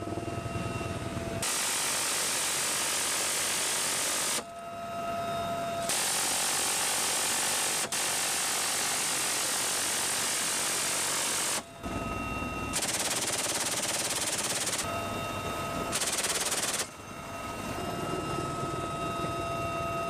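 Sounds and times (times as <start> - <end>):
minigun firing continuous buzz: 0.0 - 20.0
steady whine: 0.0 - 20.0.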